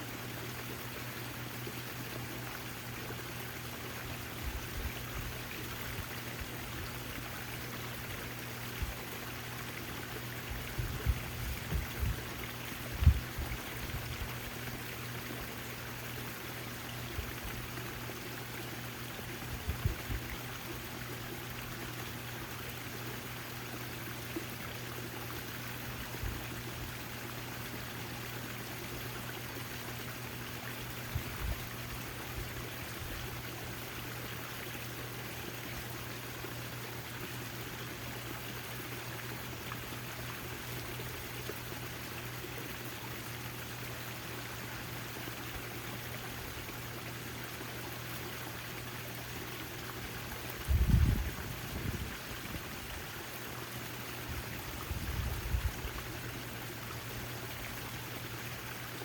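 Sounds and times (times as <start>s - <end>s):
fountain water splashing: 0.0s - 59.0s
steady low hum: 0.0s - 59.0s.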